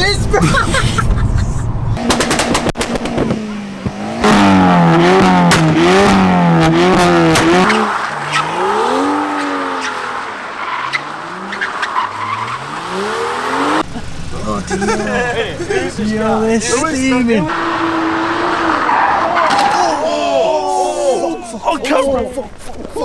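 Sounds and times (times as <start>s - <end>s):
car engine revving: 0.0s - 20.2s.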